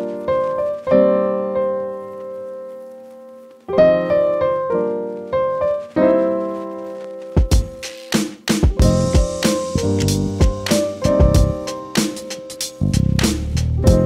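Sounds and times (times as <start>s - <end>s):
piano playing chords: 0.0s - 14.0s.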